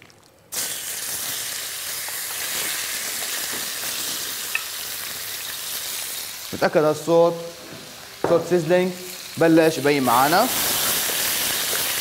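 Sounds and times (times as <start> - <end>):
chicken sizzling in wok: 0.5 - 12.0.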